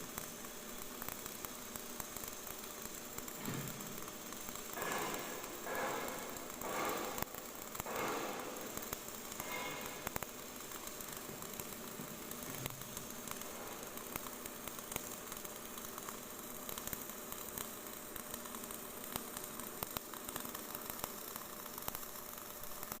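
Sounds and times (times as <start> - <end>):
arc welding crackling sizzle: 0.0 - 23.0.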